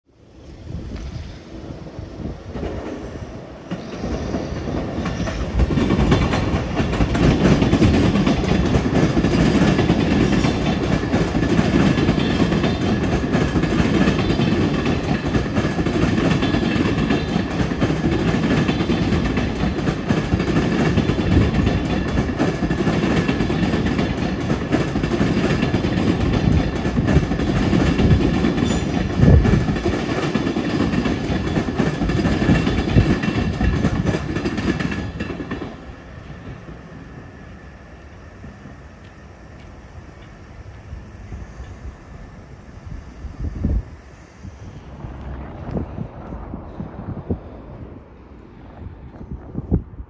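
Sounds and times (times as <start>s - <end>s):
electric train passing: 0.1s - 50.0s.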